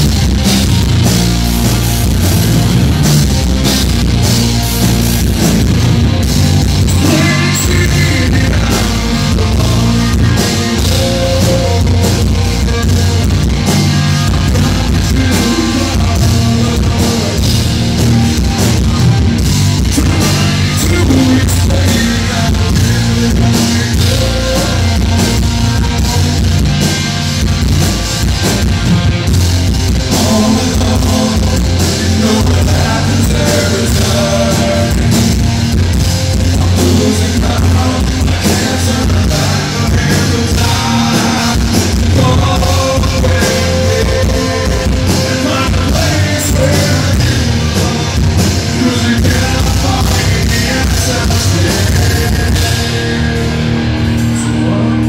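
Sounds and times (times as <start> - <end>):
rock band playing: 0.0 - 55.0
man singing: 6.6 - 19.2, 19.8 - 27.1, 29.9 - 55.0.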